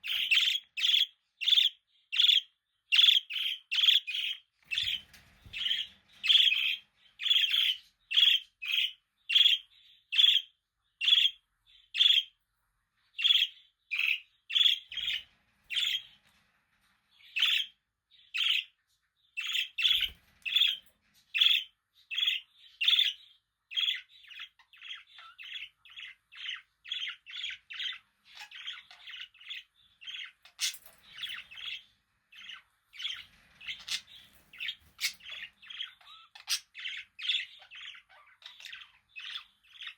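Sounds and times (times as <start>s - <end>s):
budgerigar chirping: 0.0s - 11.4s, 12.0s - 12.3s, 13.2s - 16.0s, 21.4s - 39.9s.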